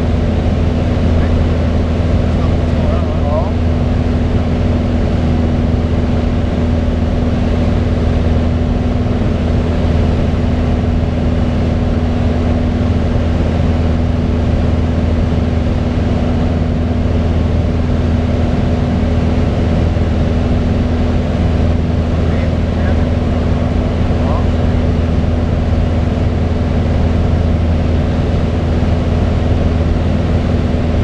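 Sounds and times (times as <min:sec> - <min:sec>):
small airplane cabin engine drone: 0:00.0 - 0:31.0.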